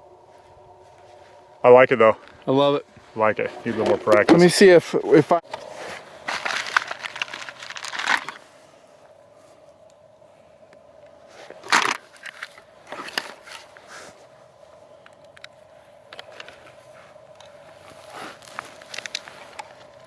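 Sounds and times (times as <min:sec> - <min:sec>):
crackling rustling near microphone: 0:00.0 - 0:20.0.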